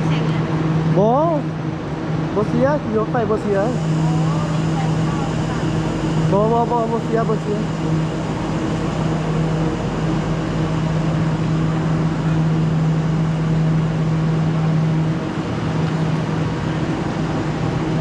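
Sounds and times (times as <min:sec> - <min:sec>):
train mechanical hum: 0:00.0 - 0:18.0.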